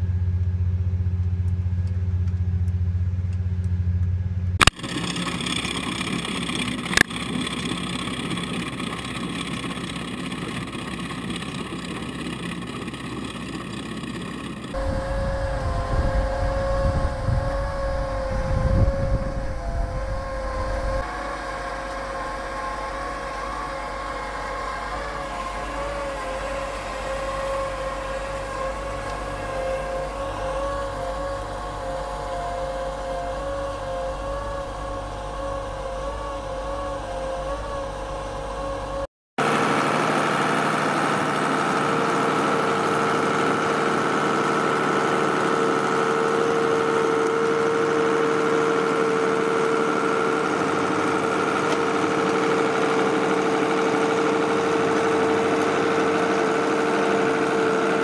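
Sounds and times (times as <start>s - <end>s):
tractor drone with high whine: 0.0s - 58.0s
trencher engine droning: 0.0s - 58.0s.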